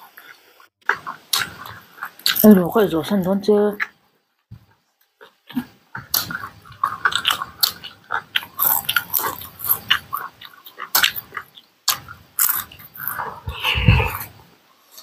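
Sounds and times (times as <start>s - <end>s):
wet chewing and lip smacks: 0.1s - 2.5s, 4.7s - 15.0s.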